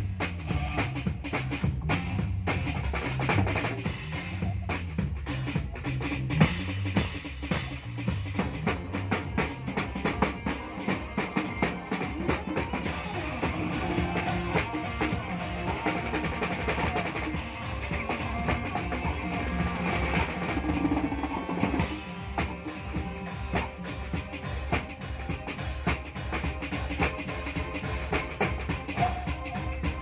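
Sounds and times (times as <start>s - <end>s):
drum kit playing: 0.0s - 30.0s.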